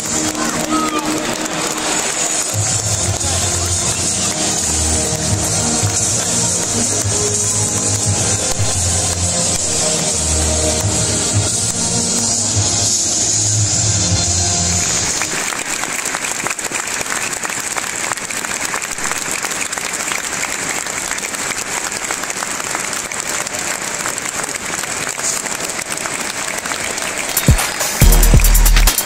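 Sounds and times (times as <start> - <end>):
crowd applauding: 0.0 - 29.0.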